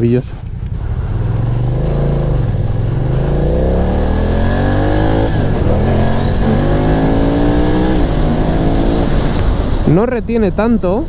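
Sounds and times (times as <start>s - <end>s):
motorcycle engine accelerating hard: 0.0s - 9.9s.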